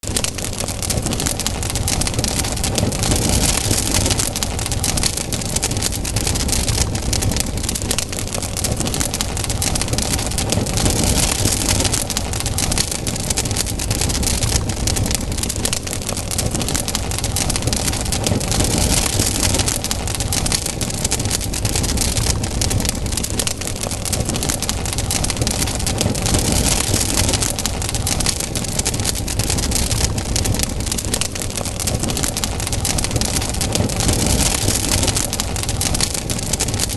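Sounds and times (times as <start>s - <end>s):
campfire crackling and hissing: 0.0s - 36.9s
low rumble: 0.0s - 36.9s.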